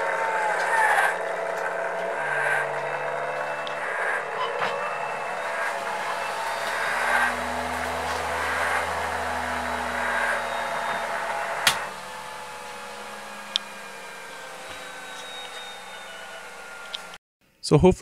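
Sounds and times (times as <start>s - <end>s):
motor whining: 0.0s - 17.2s.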